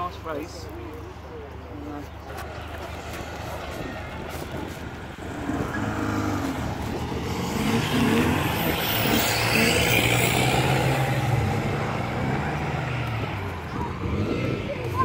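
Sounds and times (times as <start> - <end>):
racing car engines revving: 2.2 - 15.0.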